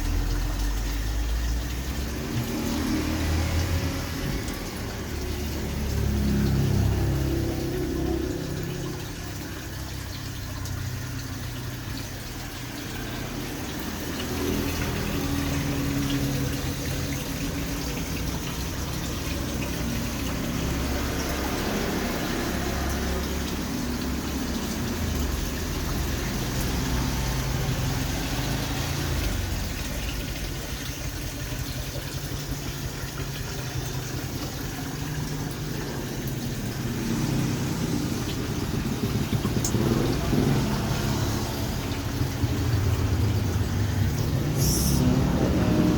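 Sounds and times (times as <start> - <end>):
water flowing and splashing: 0.0 - 45.9.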